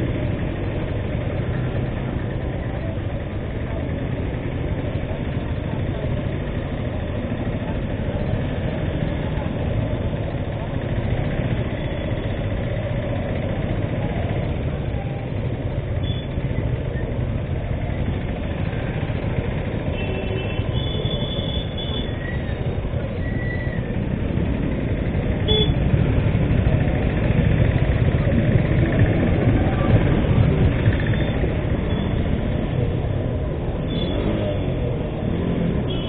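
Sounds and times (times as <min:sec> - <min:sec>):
motorcycle engine rumbling: 0:00.0 - 0:36.0.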